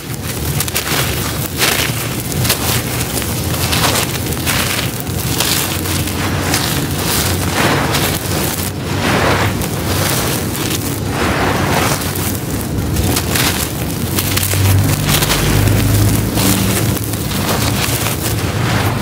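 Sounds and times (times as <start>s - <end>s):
crumbled charcoal pouring: 0.0s - 19.0s.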